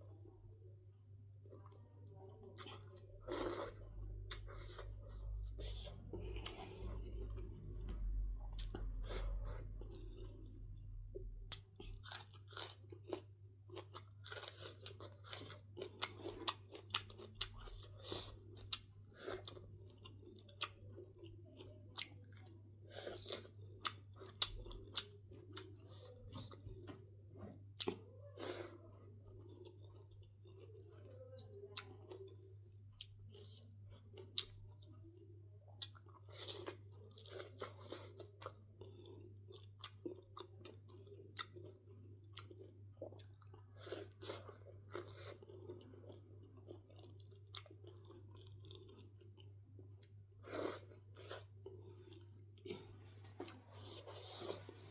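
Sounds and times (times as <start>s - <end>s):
low steady hum: 0.0s - 54.9s
person chewing food: 1.4s - 54.9s.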